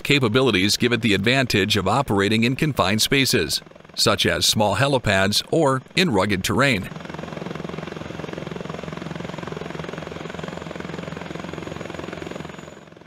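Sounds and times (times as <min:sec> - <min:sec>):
helicopter engine noise: 0:00.0 - 0:13.0
helicopter rotor beating: 0:00.0 - 0:13.0.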